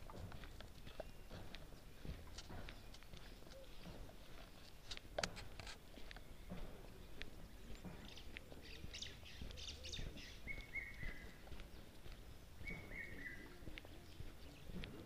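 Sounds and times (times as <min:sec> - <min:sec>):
birds chirping: 0:00.0 - 0:05.2, 0:05.8 - 0:15.0.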